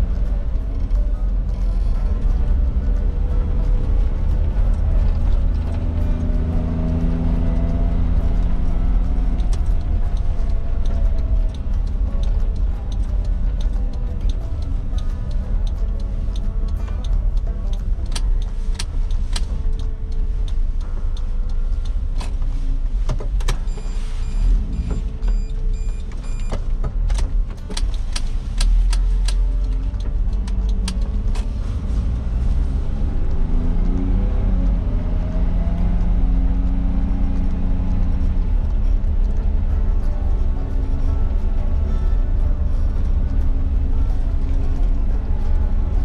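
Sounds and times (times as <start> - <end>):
regular ticking: 0.0 - 22.6, 23.2 - 46.0
car engine droning: 0.0 - 46.0.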